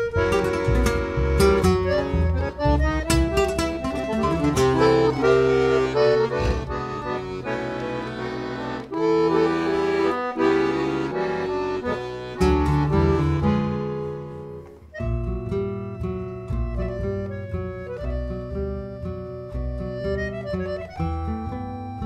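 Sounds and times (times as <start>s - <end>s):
accordion: 0.0s - 22.0s
double bass: 0.0s - 22.0s
plucked acoustic guitars: 0.0s - 22.0s.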